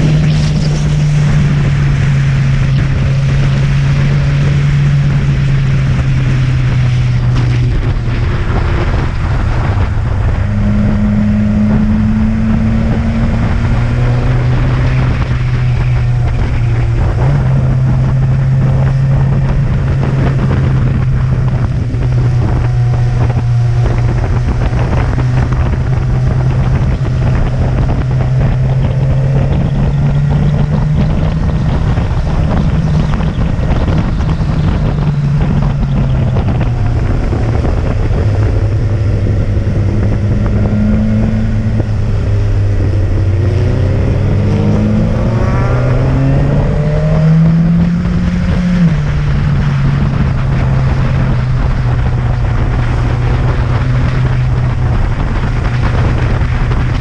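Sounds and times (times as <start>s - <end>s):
motorcycle engine: 0.0s - 57.0s
wind rushing over microphone: 0.0s - 57.0s.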